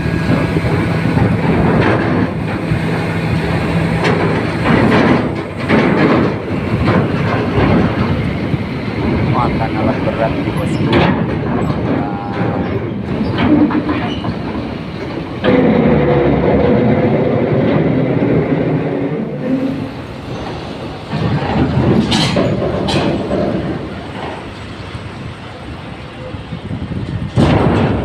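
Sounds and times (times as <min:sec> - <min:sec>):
heavy truck engines rumbling: 0:00.0 - 0:28.0.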